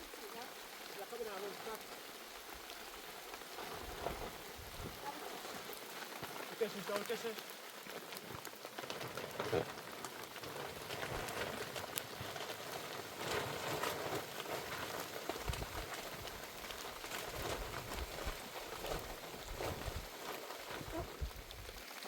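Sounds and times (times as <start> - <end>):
heavy rain pattering: 0.0 - 22.0.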